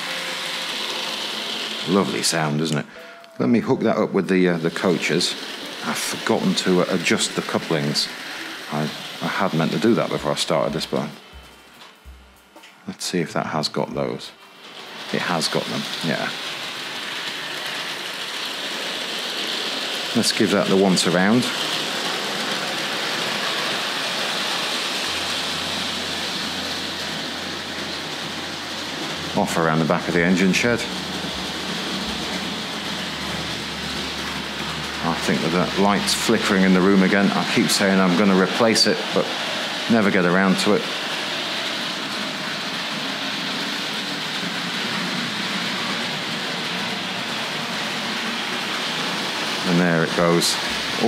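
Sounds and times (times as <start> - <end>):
model train whirring on rails: 0.0 - 51.0.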